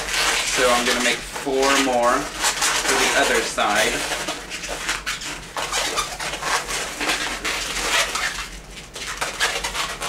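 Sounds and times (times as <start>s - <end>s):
latex balloon squeaking: 0.0s - 10.0s.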